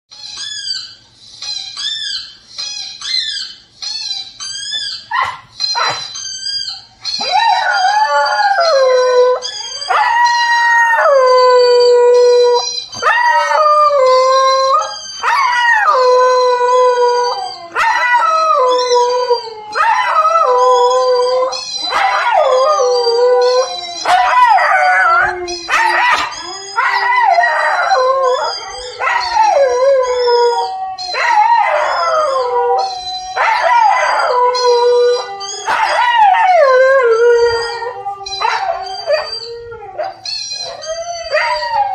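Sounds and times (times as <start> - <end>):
puppy whining: 0.1 - 41.9
puppy howling: 0.2 - 41.9.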